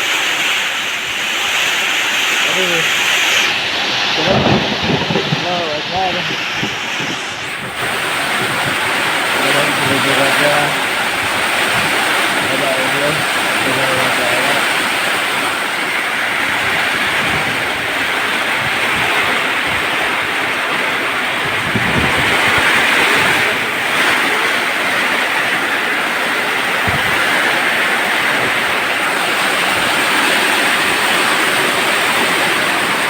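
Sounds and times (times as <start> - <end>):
heavy rain: 0.0 - 33.0
strong gusting wind: 0.0 - 33.0
wind buffeting microphone: 2.4 - 33.0.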